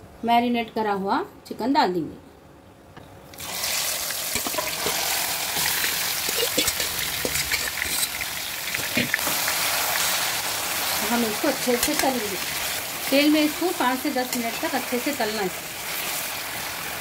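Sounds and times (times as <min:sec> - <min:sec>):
deep frying sizzling: 0:03.4 - 0:17.0.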